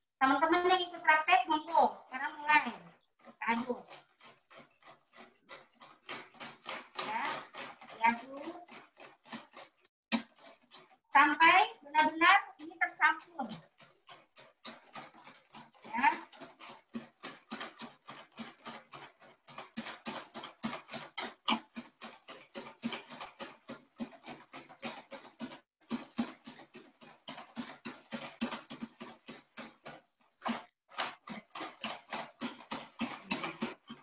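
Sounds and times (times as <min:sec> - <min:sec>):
liquid swishing in plastic bowl: 0:00.0 - 0:34.0.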